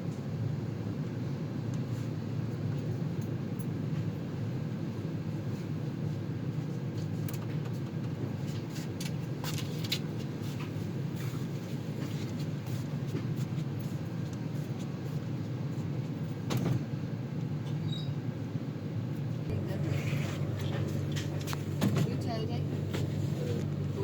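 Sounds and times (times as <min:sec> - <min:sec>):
train rumble from inside coach: 0:00.0 - 0:24.0.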